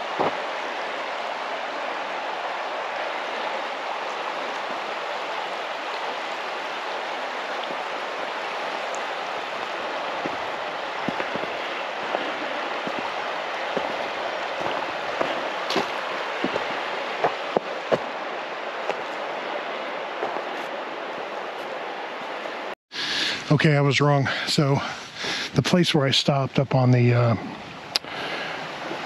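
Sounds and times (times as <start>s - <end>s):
creek water running: 0.0s - 29.0s.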